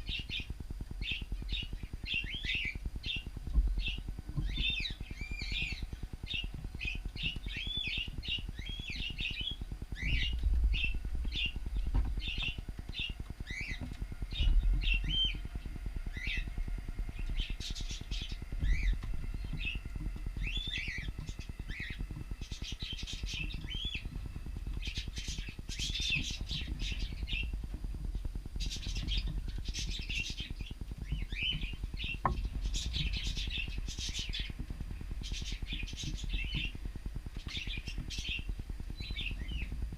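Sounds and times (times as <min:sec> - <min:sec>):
cockatiels chirping: 0:00.0 - 0:39.8
low rumble: 0:00.0 - 0:39.9.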